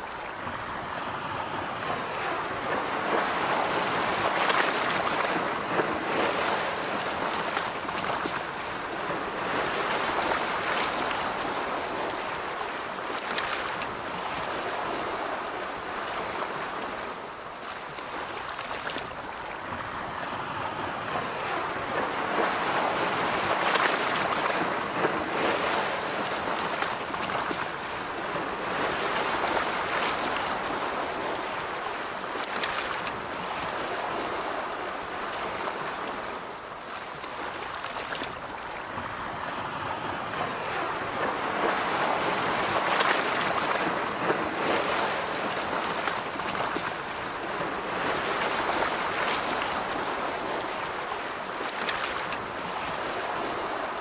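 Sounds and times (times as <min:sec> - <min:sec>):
ocean surf on a beach: 0:00.0 - 0:54.0
wind: 0:00.0 - 0:54.0.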